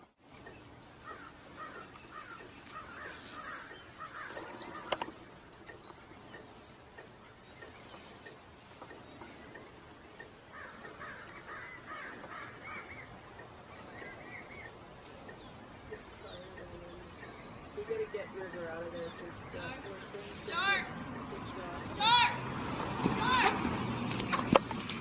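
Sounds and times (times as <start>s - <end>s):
harsh bird calls: 0.3s - 24.8s.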